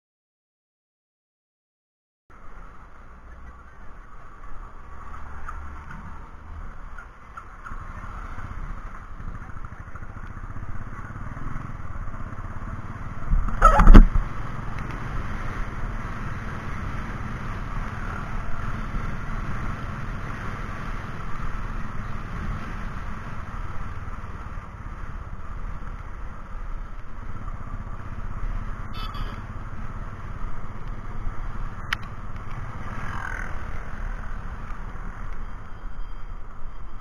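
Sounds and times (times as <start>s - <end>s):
rush of noise: 2.3s - 37.0s
motorcycle engine running: 4.9s - 36.6s.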